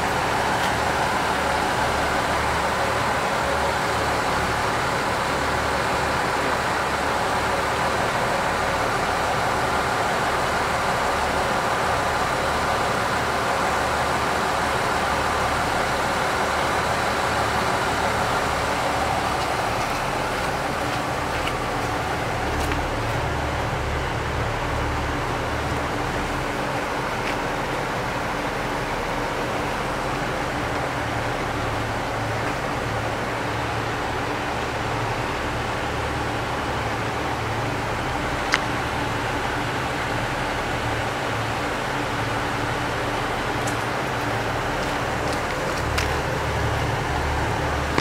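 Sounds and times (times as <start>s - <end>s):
diesel railcar engine idling: 0.0s - 48.0s.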